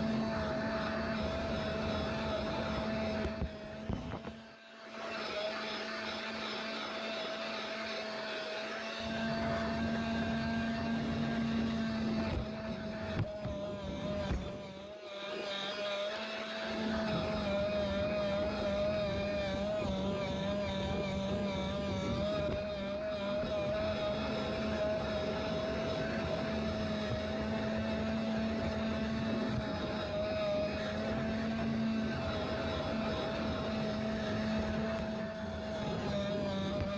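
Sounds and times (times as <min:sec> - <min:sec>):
model train motor whine: 0:00.0 - 0:36.9.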